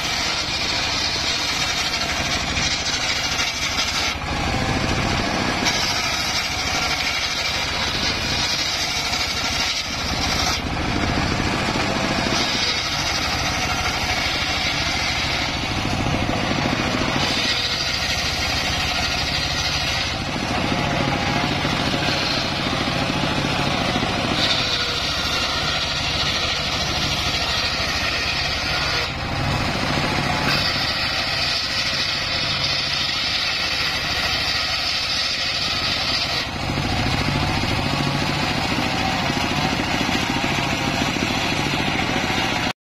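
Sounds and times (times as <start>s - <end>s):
circular saw whine cutting wood: 0.0s - 42.8s
engine drone: 0.0s - 42.8s.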